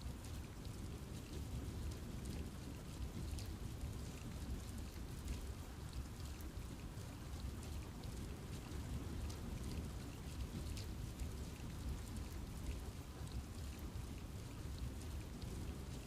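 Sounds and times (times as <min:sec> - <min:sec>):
low even rumble of rain: 0:00.0 - 0:16.0
rain drops ticking on leaves: 0:00.0 - 0:16.0.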